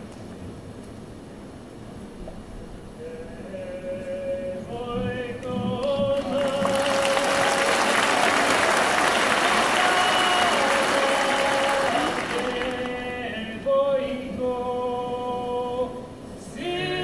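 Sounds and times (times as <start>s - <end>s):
choir and orchestra: 3.2s - 17.0s.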